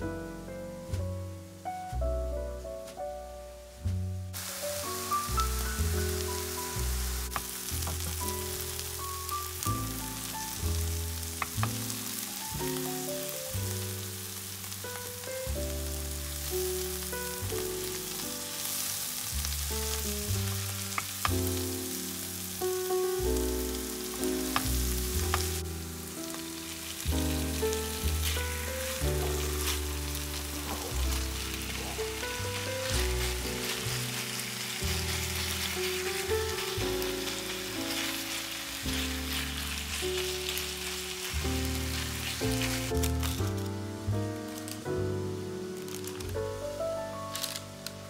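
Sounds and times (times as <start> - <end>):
background music with bass: 0.0 - 47.9
vegetables sizzling in a pan: 3.8 - 46.4.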